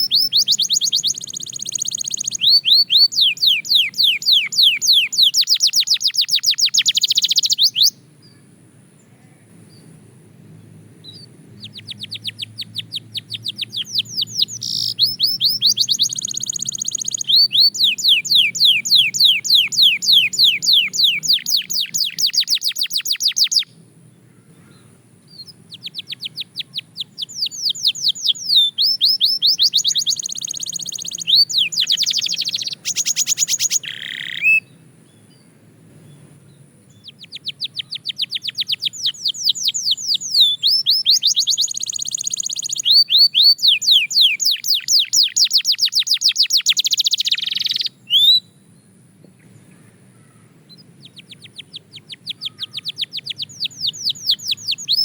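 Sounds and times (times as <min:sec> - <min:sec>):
canary singing trills: 0:00.0 - 0:10.0, 0:10.6 - 0:48.6, 0:50.1 - 0:55.0.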